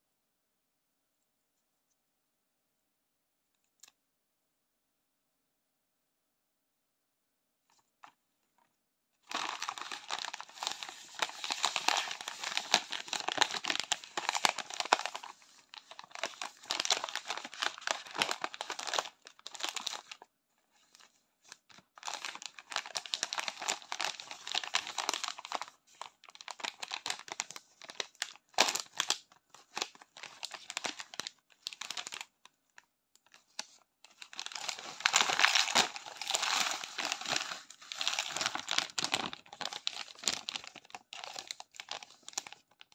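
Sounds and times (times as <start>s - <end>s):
plastic snack bag crinkling: 7.7s - 42.9s.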